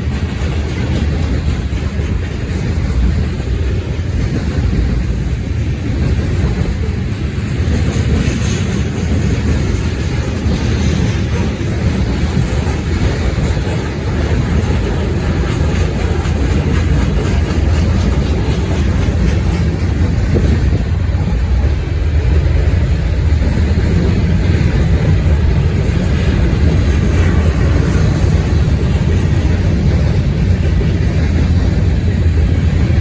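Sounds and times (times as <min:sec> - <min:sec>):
freight train rolling on rails: 0:00.0 - 0:33.0
wind buffeting microphone: 0:00.0 - 0:33.0.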